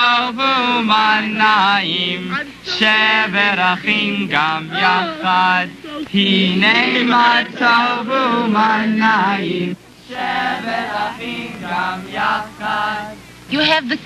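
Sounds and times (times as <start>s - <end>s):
group singing or chanting: 0.0s - 13.2s.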